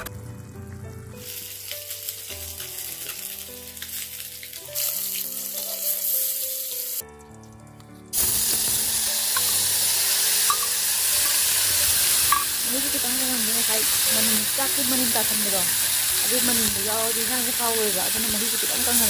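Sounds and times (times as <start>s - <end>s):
faint background music: 0.0s - 19.0s
food sizzling in hot oil: 1.2s - 7.3s, 8.1s - 19.0s.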